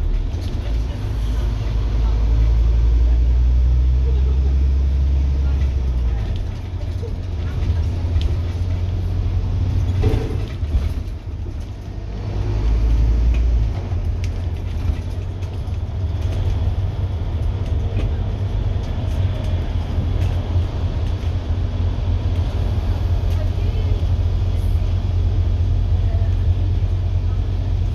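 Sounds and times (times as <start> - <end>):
bus diesel engine droning: 0.0 - 27.9.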